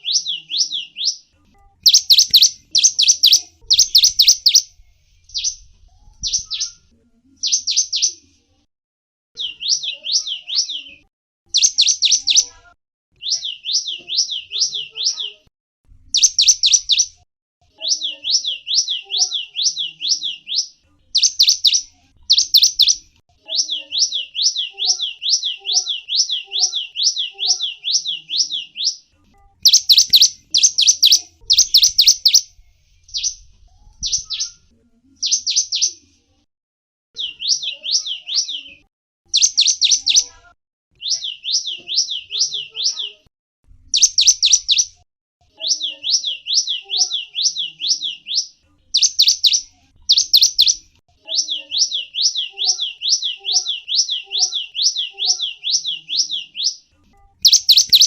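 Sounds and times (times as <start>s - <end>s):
small bird chirping: 0.0s - 8.3s, 9.4s - 15.5s, 16.1s - 36.1s, 37.2s - 43.2s, 43.9s - 45.0s, 45.6s - 58.0s.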